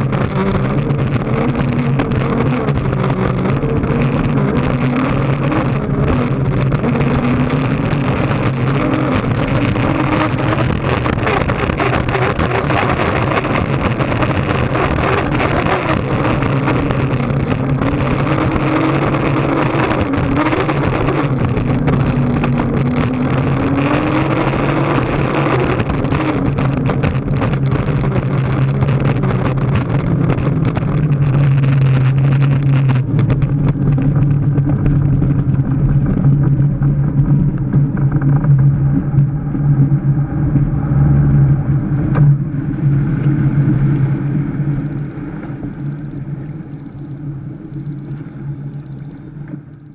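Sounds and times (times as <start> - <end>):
boat engine running hard: 0.0 - 49.9.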